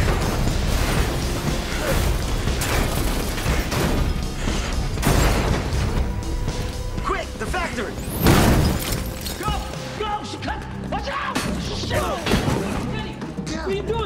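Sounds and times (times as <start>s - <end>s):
orchestral action music: 0.0s - 14.0s.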